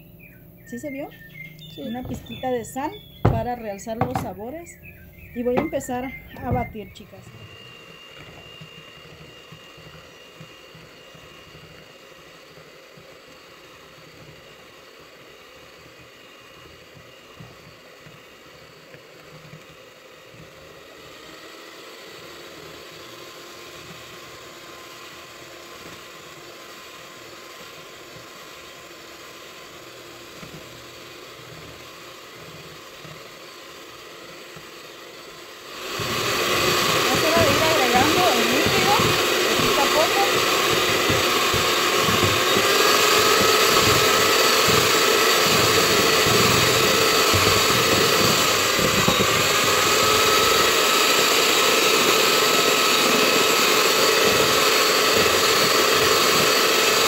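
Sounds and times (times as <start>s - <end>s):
electric hand mixer whipping: 0.0s - 57.0s.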